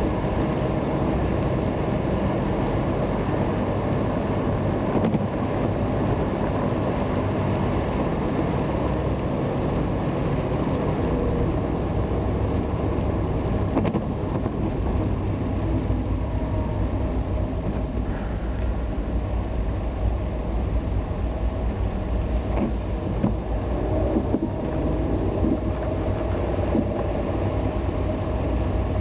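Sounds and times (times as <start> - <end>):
vehicle driving on wet road: 0.0 - 29.0.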